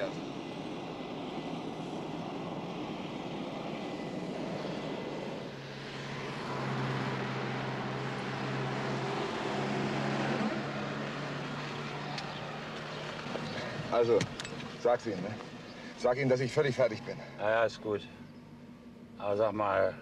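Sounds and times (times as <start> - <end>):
car traffic driving past: 0.0 - 19.2
jet engine with high whine: 0.0 - 20.0.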